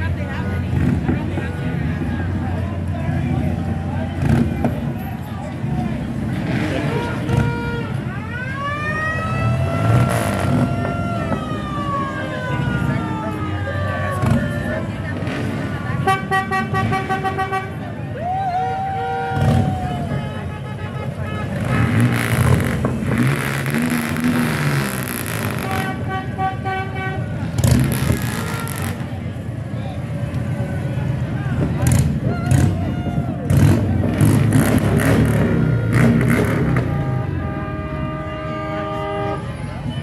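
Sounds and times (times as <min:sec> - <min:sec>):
low rumble of vehicle engines: 0:00.0 - 0:40.0.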